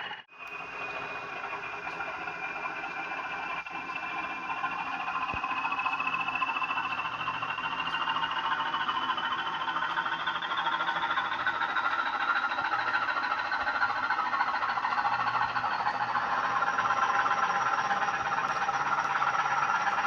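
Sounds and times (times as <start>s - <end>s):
model diesel engine sound: 0.0s - 20.0s
thin rising whine: 0.0s - 20.0s.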